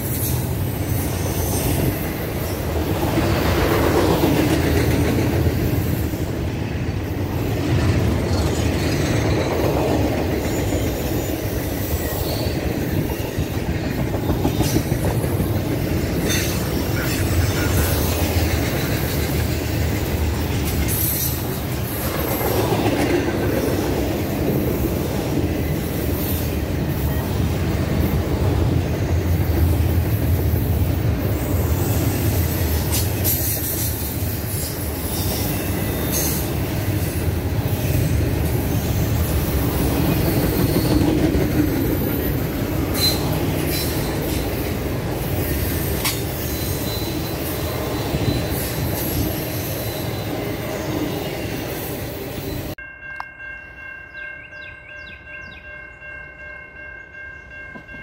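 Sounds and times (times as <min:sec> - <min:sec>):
rumble of train wheels on rail: 0:00.0 - 0:58.0.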